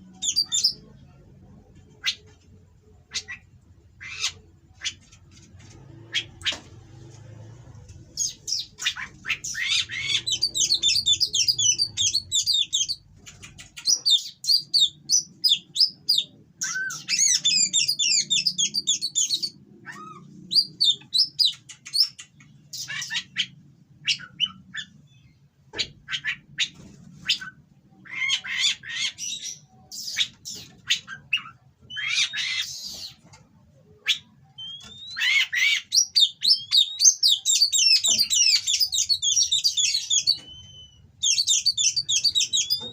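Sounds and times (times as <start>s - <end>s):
bird song with rapid rising notes: 0.0s - 1.0s, 5.6s - 33.3s, 34.0s - 42.9s
bird calls and squawks: 0.0s - 7.0s, 8.1s - 42.9s.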